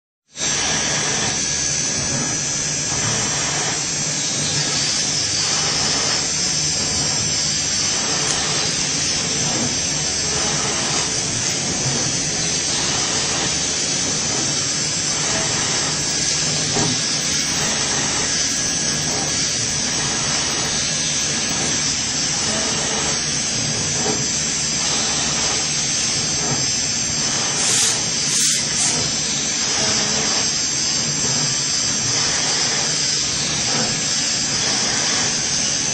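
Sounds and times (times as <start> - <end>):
drilling machine whine and hiss: 0.3 - 35.9.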